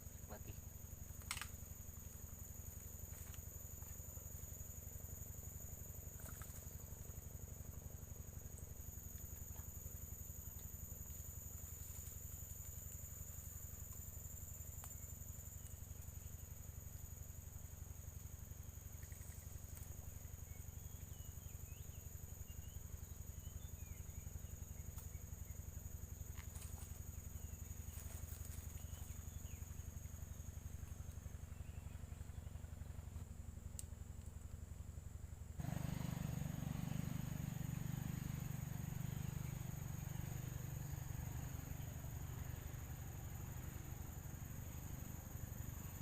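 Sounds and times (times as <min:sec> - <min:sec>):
insects trilling: 0:00.0 - 0:46.0.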